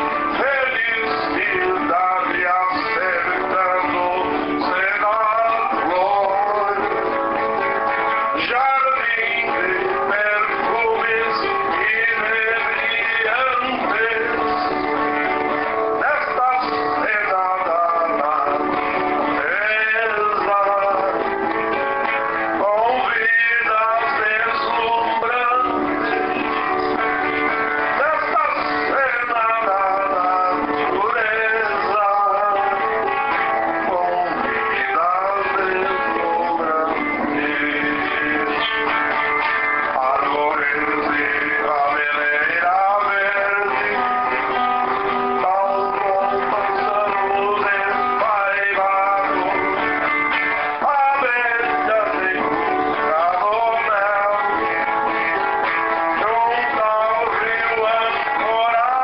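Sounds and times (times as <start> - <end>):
acoustic guitar melody: 0.0 - 59.0
man singing: 0.0 - 59.0.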